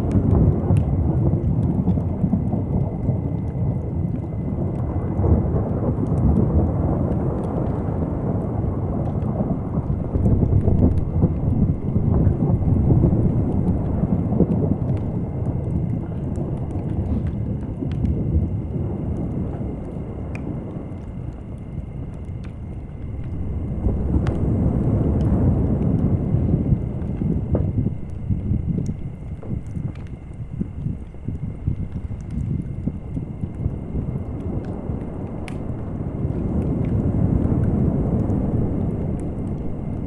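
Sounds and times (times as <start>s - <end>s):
distant thunder: 0.0s - 40.0s
faint campfire crackles: 0.0s - 40.0s.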